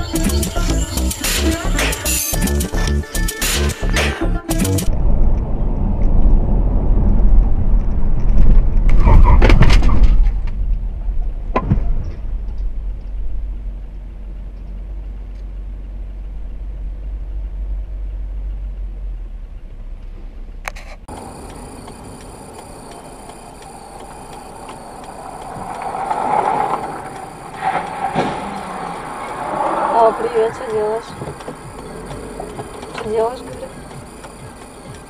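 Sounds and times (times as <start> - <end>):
vehicle low rumble: 0.0 - 35.0.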